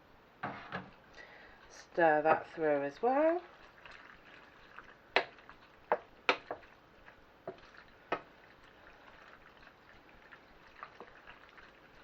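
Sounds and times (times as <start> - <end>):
faint wet liquid sounds: 1.0 - 12.0.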